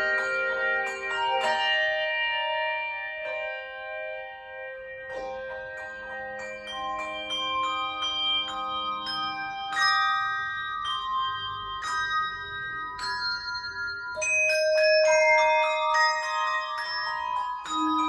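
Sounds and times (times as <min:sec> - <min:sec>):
handbells and chimes melody: 0:00.0 - 0:18.0.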